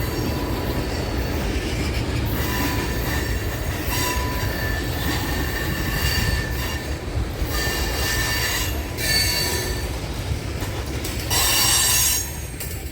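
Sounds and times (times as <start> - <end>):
train wheels squealing: 0.0 - 10.0, 11.3 - 12.9
railroad cars rumbling: 0.0 - 12.9.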